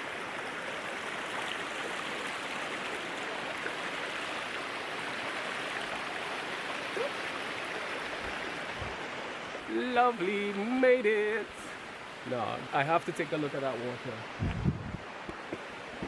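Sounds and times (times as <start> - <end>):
stream water over rocks: 0.0 - 16.0.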